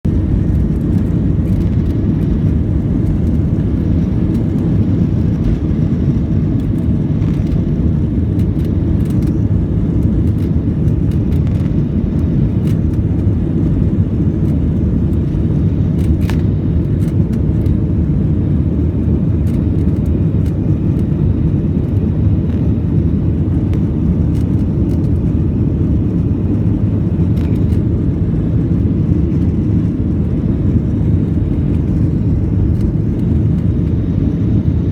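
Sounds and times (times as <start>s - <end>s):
jet engine rumble in cabin: 0.0s - 34.9s.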